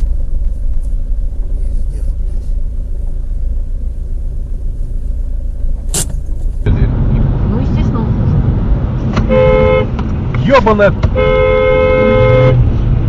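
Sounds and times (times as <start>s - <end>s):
car idling rumble: 0.0s - 13.0s.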